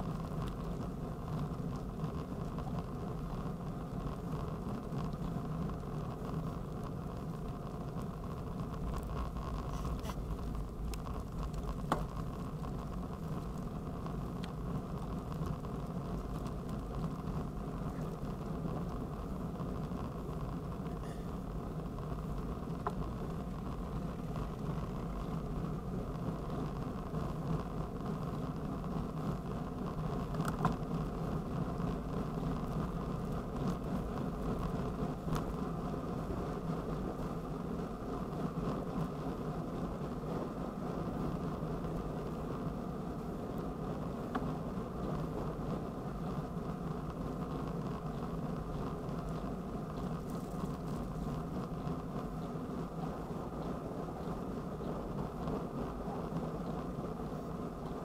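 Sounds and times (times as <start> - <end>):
faint ticks: 0.0 - 39.2, 43.2 - 57.0
bicycle rolling on asphalt: 0.0 - 58.0
wind noise: 0.0 - 58.0.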